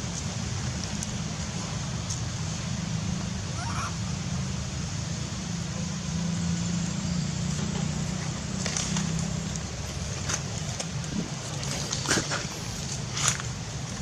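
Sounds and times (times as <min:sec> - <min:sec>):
low engine hum: 0:00.0 - 0:14.0
steady hiss: 0:00.0 - 0:14.0.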